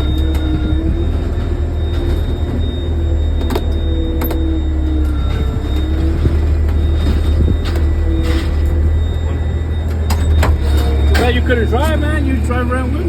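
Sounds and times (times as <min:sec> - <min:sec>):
hydraulic whine: 0:00.0 - 0:13.0
truck engine droning: 0:00.0 - 0:13.0.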